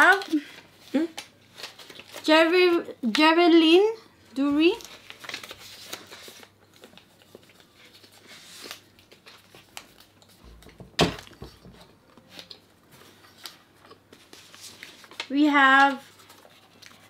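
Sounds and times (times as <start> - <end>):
paper rustling being folded: 0.0 - 3.3, 4.4 - 17.0.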